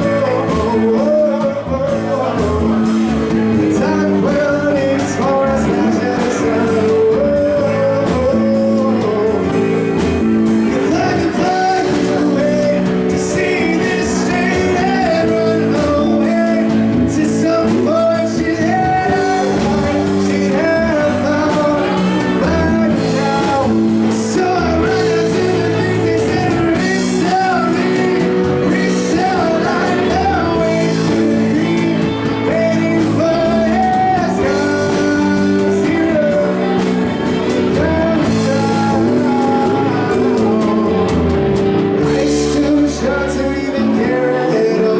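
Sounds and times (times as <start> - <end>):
bass: 0.0 - 44.9
drums: 0.0 - 44.9
electric guitar: 0.0 - 44.9
keyboard chords: 0.0 - 44.9
male lead vocal: 0.0 - 44.9.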